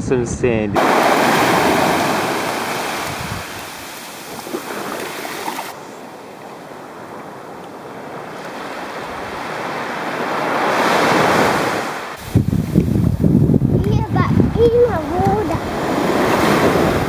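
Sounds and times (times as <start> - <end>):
small waves breaking on beach: 0.8 - 13.1, 14.6 - 17.0.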